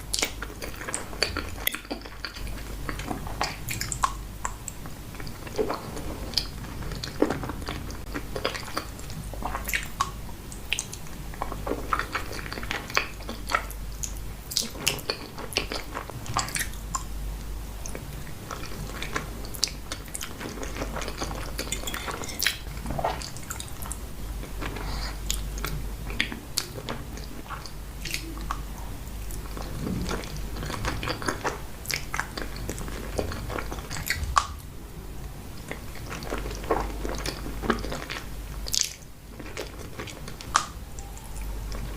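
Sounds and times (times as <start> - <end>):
wet chewing and mouth clicks: 0.0 - 34.6, 35.2 - 41.9.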